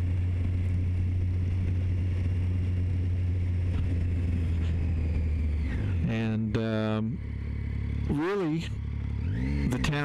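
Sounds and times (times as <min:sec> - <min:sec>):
motorcycle engine cruising: 0:00.0 - 0:10.0
wind and road rush: 0:00.0 - 0:10.0.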